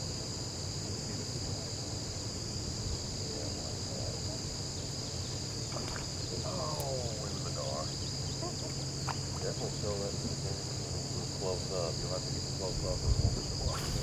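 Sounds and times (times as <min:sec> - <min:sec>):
insect chorus buzzing: 0:00.0 - 0:14.0
low steady rumble: 0:00.8 - 0:14.0.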